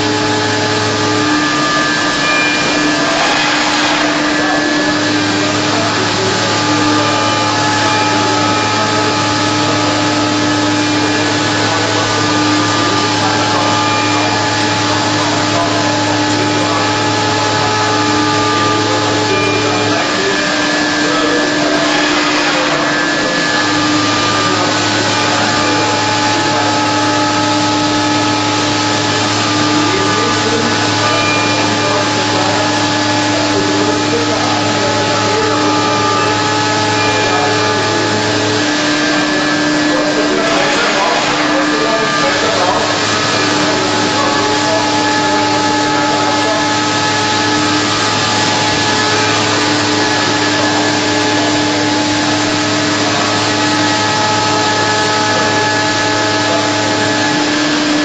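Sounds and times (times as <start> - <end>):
machining center whirring: 0.0 - 58.0.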